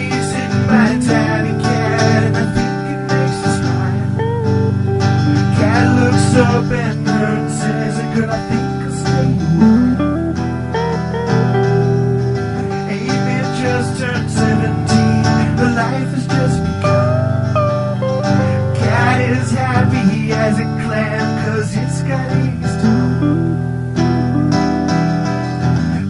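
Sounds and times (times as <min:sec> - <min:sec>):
person singing: 0:00.0 - 0:23.4
guitar song: 0:00.0 - 0:26.0.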